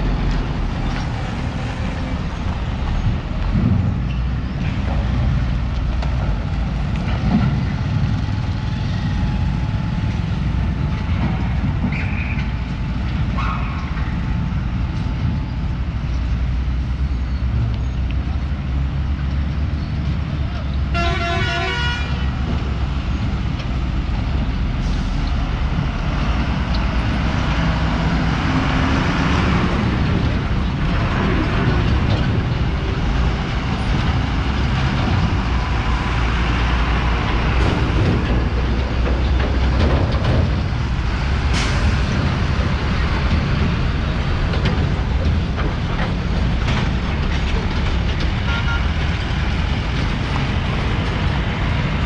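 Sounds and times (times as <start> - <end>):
vehicle and road noise: 0.0 - 52.0.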